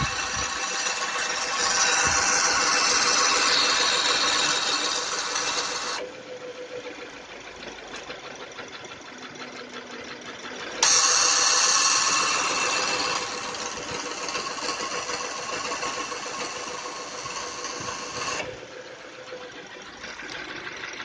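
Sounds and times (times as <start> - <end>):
ac compressor whirring grind: 0.0 - 6.3, 10.4 - 21.0.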